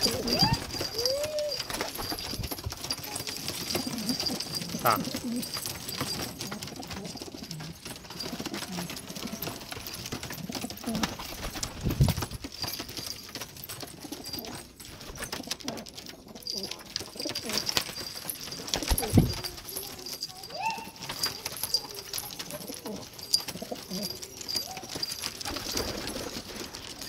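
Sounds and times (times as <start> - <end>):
pigeons cooing: 0.0 - 11.8, 12.5 - 27.0.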